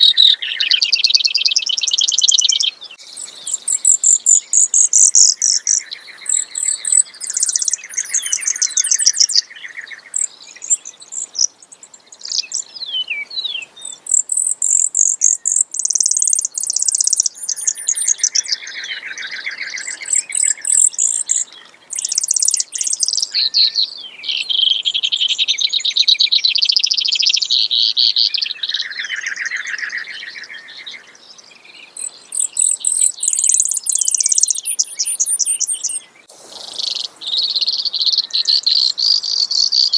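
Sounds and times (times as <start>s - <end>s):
sparrow singing rapid trills: 0.0s - 39.9s.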